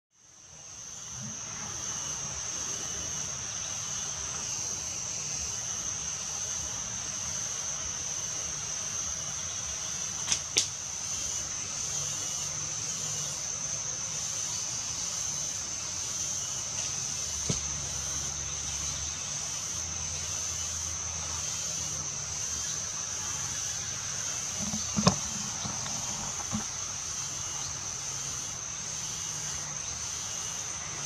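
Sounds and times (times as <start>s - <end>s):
high-pitched insect drone: 0.2s - 31.0s.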